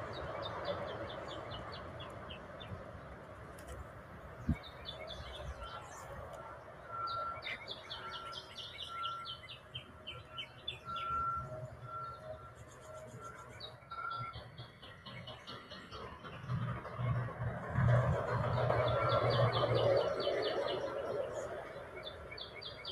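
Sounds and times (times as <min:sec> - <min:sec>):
songbirds calling: 0:00.0 - 0:22.9.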